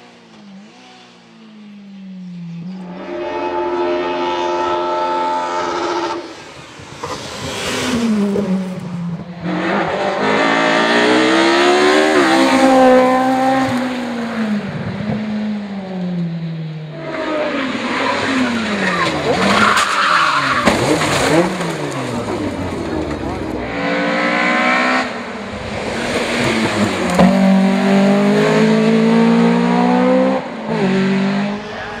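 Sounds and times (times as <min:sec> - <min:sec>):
rally car engine accelerating: 0:00.0 - 0:32.0.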